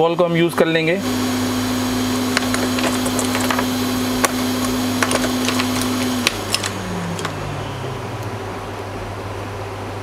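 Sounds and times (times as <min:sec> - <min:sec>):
hot air blower hissing and humming: 0:00.0 - 0:10.0.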